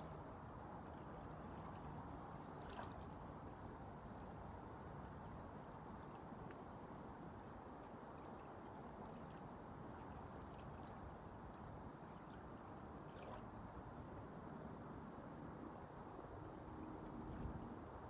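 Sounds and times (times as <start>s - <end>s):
waves: 0.0s - 18.0s
wind: 0.0s - 18.0s.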